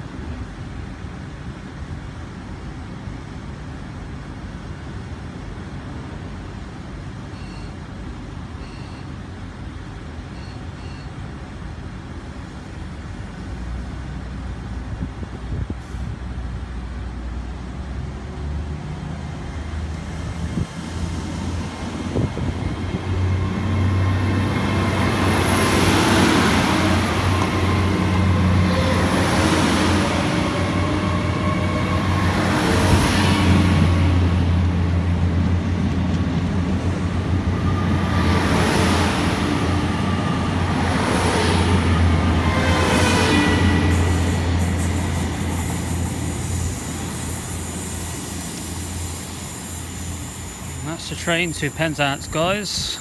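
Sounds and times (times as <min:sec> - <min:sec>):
train diesel engine hum: 0:00.0 - 0:53.0.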